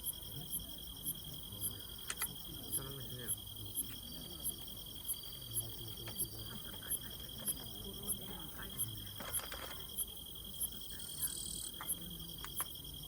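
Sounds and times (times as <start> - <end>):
faint murmuring voices: 0.0 - 13.0
insect chirp: 0.0 - 13.0
insects trilling: 0.0 - 13.0.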